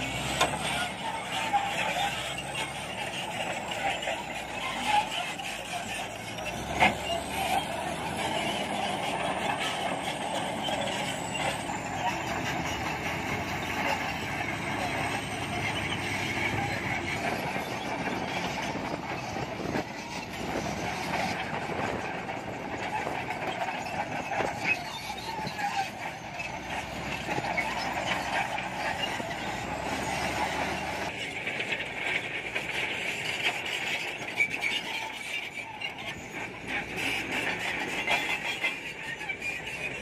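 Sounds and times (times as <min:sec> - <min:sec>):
bulldozer diesel engine running: 0:00.0 - 0:40.0
steel tracks squealing and clattering: 0:00.0 - 0:40.0.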